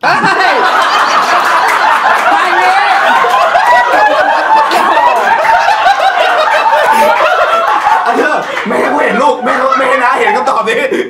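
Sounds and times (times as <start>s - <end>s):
people laughing loudly: 0.0s - 11.0s.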